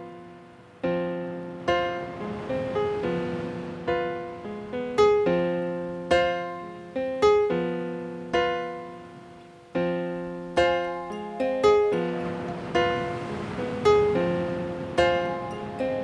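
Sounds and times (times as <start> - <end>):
slow piano notes and chords: 0.0 - 16.0.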